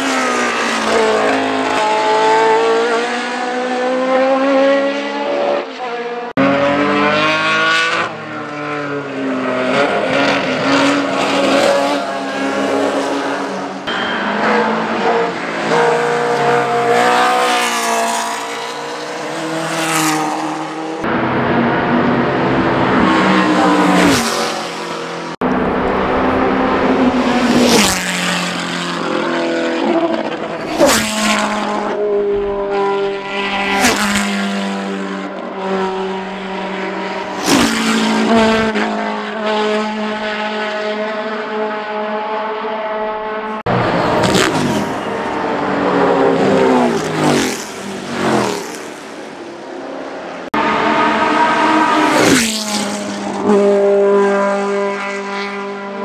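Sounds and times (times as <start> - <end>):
racing cars passing at speed: 0.0 - 56.0.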